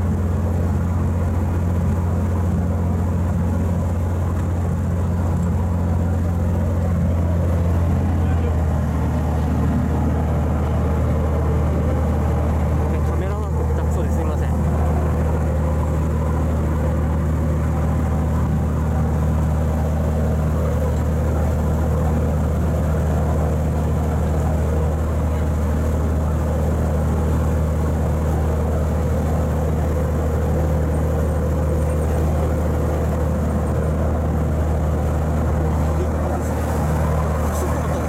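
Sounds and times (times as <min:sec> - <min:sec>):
boat engine droning: 0:00.0 - 0:38.0
water churning: 0:00.0 - 0:38.0.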